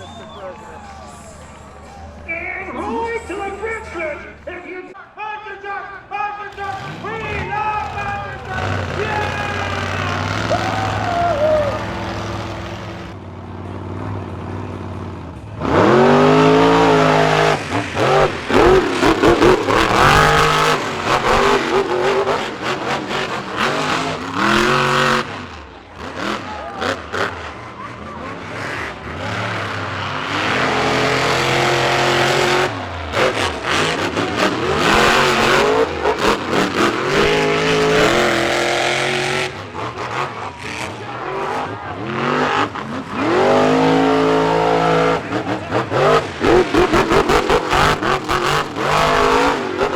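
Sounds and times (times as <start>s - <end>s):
monster truck engines revving: 0.0s - 5.0s, 5.6s - 49.9s.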